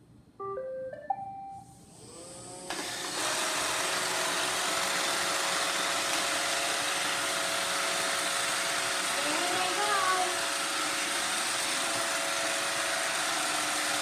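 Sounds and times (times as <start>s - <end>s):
robot vacuum motor running: 1.9s - 14.0s.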